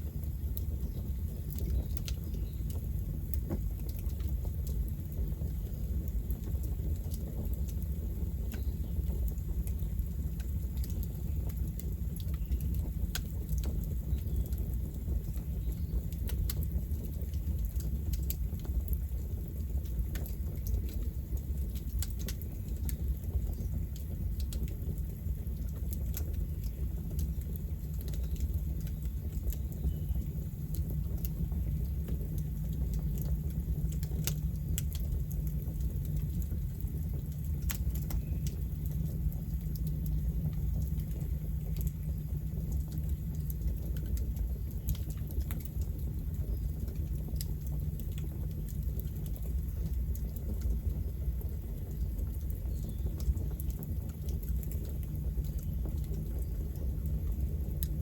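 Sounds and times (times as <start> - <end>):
burning wood crackling and popping: 0.0 - 58.0
low rumble of fire: 0.0 - 58.0.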